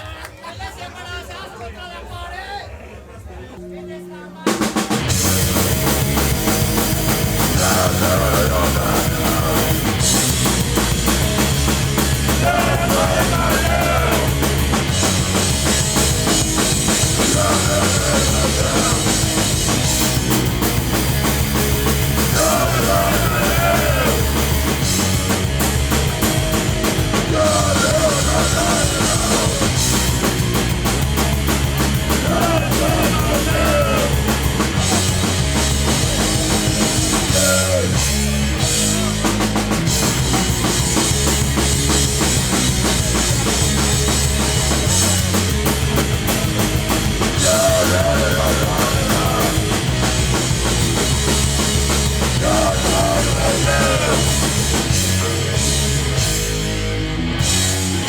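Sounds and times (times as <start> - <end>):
punk band playing: 3.6 - 58.0.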